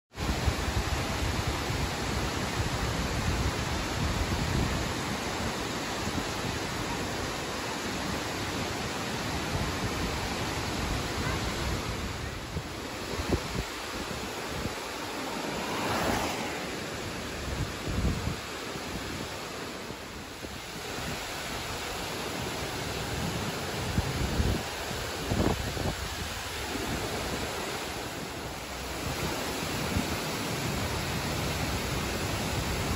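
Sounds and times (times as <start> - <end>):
waterfall rushing: 0.2 - 32.9
wind buffeting microphone: 0.2 - 32.9.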